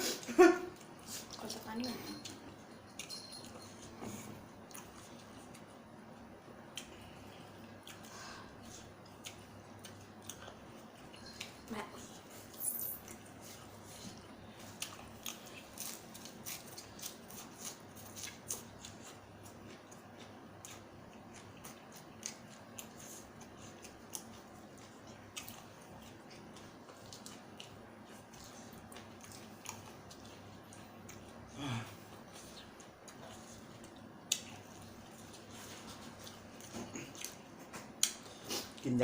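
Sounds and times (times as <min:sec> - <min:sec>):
faint low hum: 0:00.0 - 0:39.0
person chewing wetly: 0:04.6 - 0:11.6, 0:13.1 - 0:38.9.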